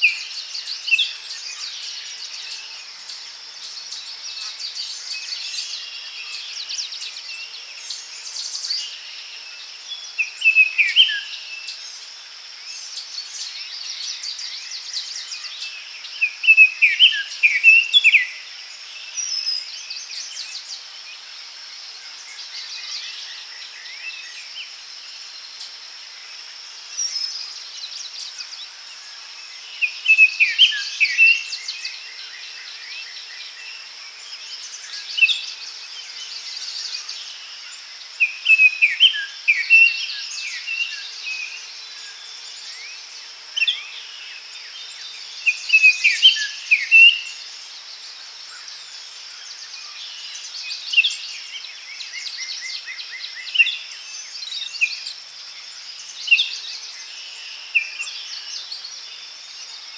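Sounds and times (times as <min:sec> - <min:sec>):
birds singing: 0:00.0 - 0:21.3, 0:21.9 - 0:59.9.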